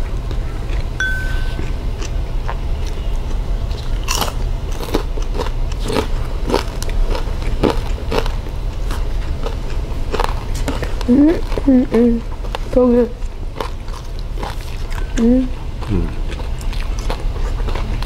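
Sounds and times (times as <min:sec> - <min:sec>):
crunchy chewing: 0:00.0 - 0:01.0, 0:01.6 - 0:18.0.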